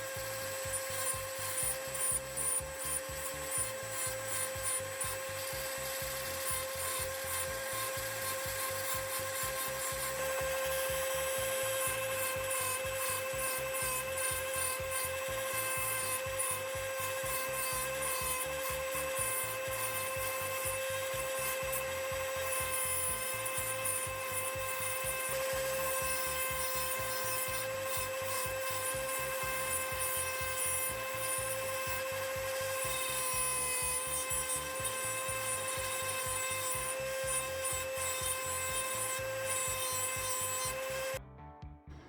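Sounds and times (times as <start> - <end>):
tool scraping laptop hinge: 0.0 - 41.2.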